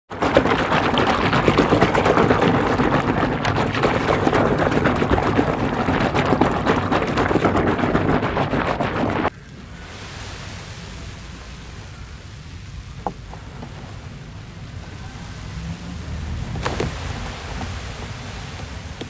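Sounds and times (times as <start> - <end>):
hand sloshing soapy water: 0.1 - 11.8, 15.2 - 19.0
foam crackling: 0.1 - 19.0.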